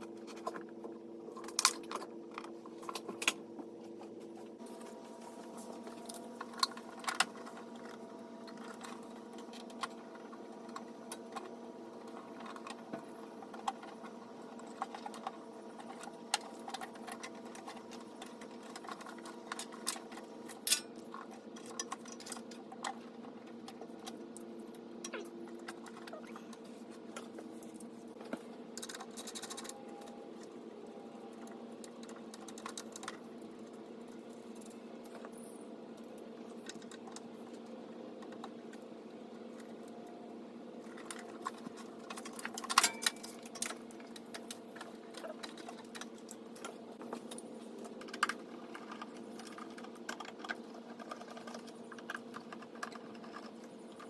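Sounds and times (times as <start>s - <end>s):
steady hum of held tones: 0.0s - 54.0s.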